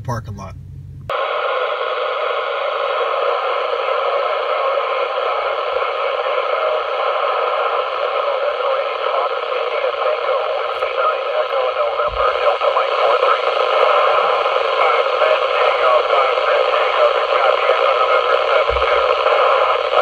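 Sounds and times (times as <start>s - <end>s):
radio speaker hiss: 1.1s - 20.0s.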